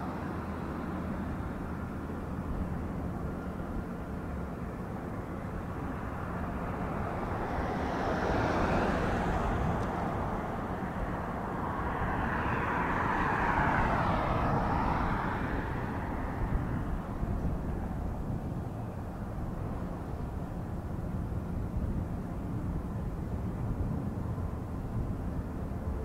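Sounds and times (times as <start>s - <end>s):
aircraft engine rumble: 0.0s - 26.0s
engine whine: 0.0s - 26.0s.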